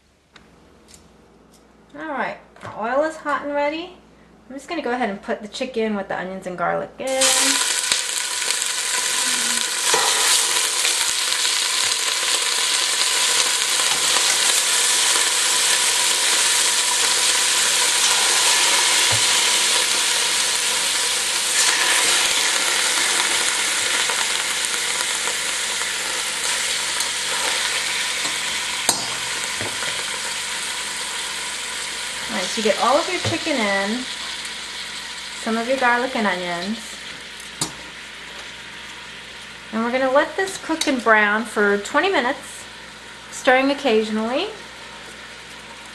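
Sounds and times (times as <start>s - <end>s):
chicken sizzling in oil: 7.1s - 45.9s.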